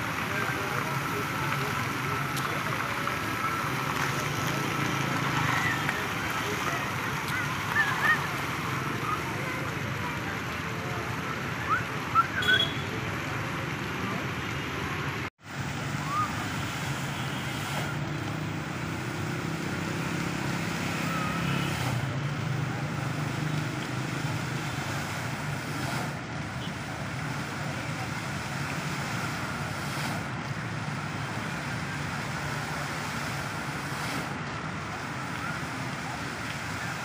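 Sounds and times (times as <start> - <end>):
faint voices of onlookers: 0.0 - 37.0
fountain water splashing: 0.0 - 37.0.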